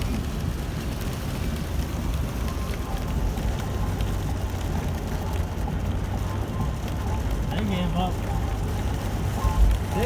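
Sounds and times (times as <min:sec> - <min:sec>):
heavy rain on windshield and roof: 0:00.0 - 0:10.0
road and engine rumble: 0:00.0 - 0:10.0.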